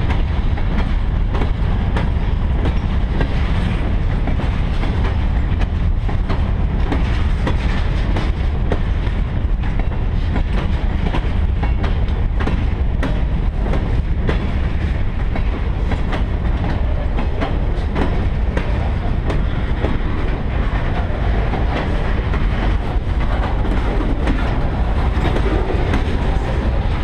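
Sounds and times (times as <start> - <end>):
steel wheels rumbling on rail: 0.0 - 27.0
wheels clicking over rail joints: 0.0 - 27.0.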